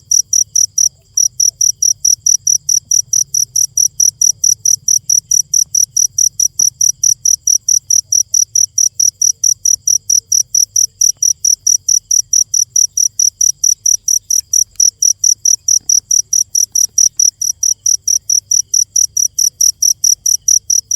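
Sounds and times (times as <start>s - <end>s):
cricket chirping: 0.0s - 20.9s.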